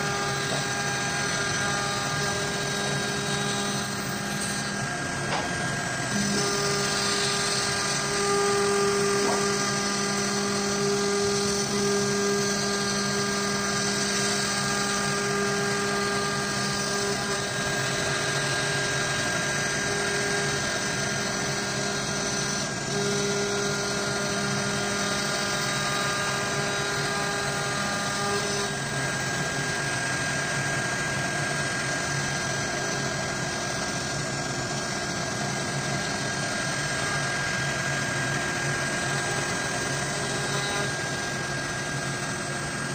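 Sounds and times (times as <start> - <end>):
end mill cutting wood: 0.0 - 42.9
router spindle whine: 0.0 - 42.9.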